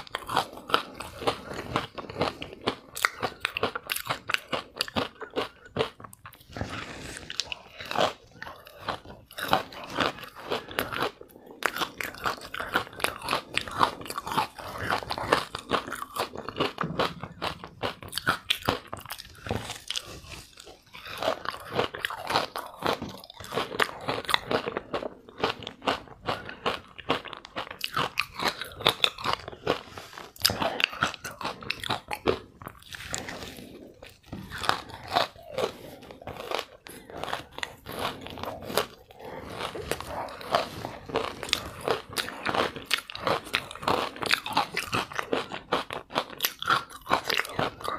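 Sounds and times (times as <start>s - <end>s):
chewing crunchy ice: 0.0s - 47.9s.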